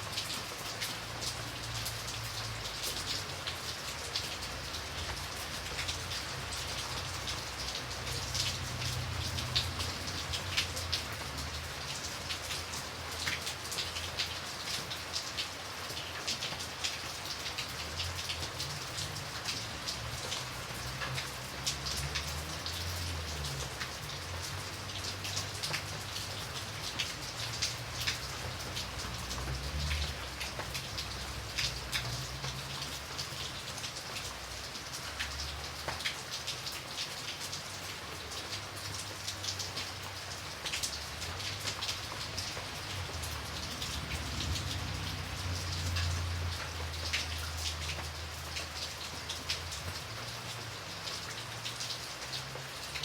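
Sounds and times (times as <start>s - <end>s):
rain drops tapping on a surface: 0.0s - 53.0s.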